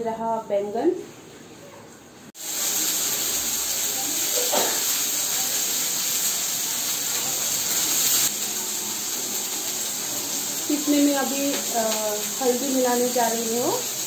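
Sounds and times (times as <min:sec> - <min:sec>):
slices frying in hot oil: 0:02.4 - 0:14.0.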